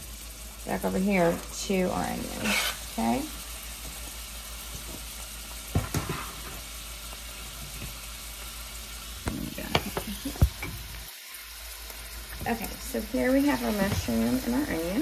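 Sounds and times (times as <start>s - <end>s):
onions and mushrooms sizzling in oil: 0.0s - 15.0s.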